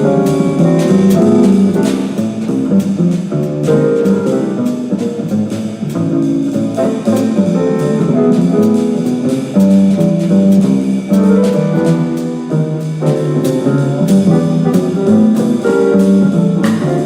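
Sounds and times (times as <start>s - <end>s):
jazz combo playing: 0.0s - 17.0s.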